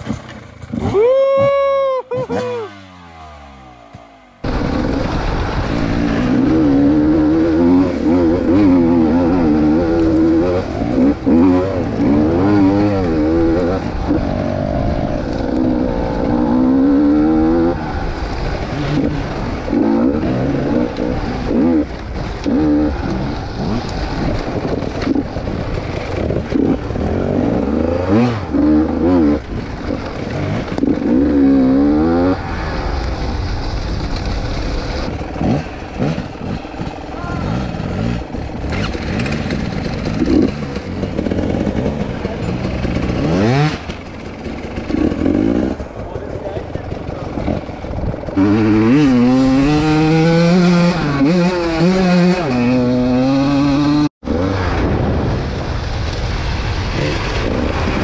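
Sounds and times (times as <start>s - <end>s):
dirt bike engine revving: 0.0s - 55.8s, 56.6s - 58.0s.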